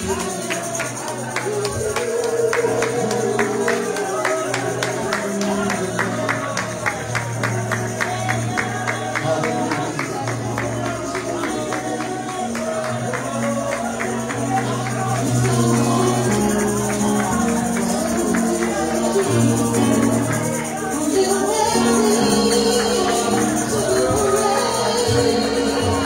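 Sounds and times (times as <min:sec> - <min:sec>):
keyboard chords: 0:00.0 - 0:26.0
voices singing into microphones: 0:00.0 - 0:26.0.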